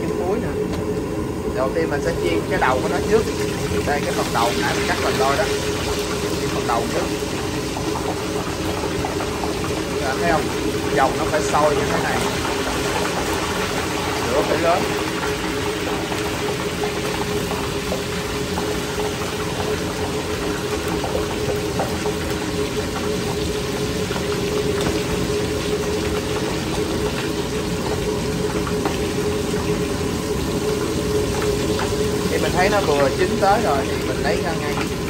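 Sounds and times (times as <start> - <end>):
food sizzling in hot oil: 0.0 - 35.0
gas burner roaring: 0.0 - 35.0.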